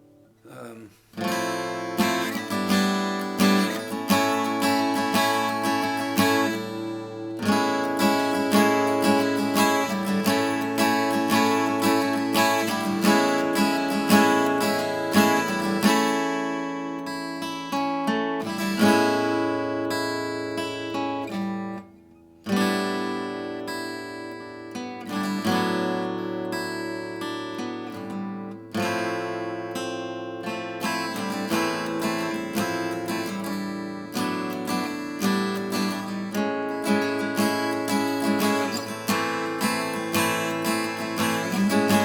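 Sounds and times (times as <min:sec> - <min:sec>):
acoustic guitar strumming and picking: 0:00.0 - 0:42.0.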